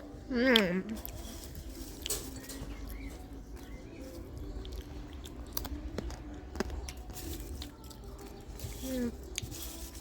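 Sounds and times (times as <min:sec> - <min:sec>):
person chewing crunchy popcorn: 0:00.8 - 0:10.0.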